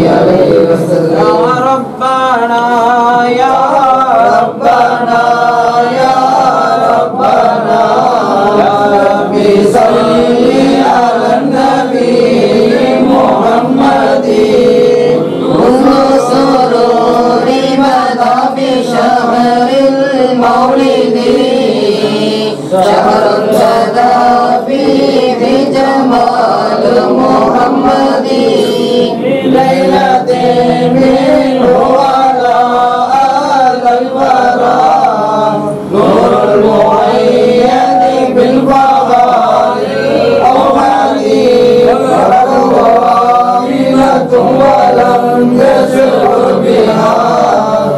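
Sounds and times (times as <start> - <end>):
men chanting in unison: 0.0 - 47.9.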